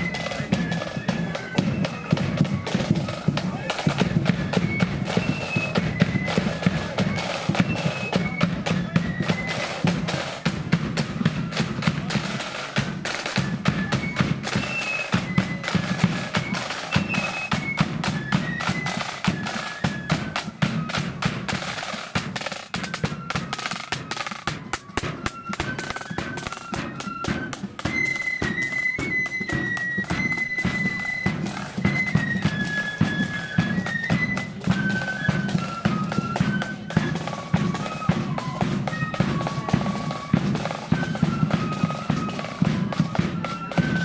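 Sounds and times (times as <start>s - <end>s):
flute melody: 0.0s - 44.0s
rapid snare drumming: 0.0s - 44.0s.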